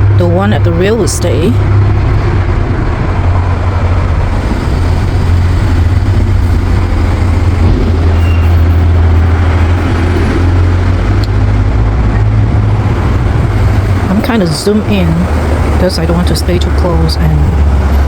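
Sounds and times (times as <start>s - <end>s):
engine hum: 0.0s - 18.0s
traffic rumble: 0.0s - 18.0s.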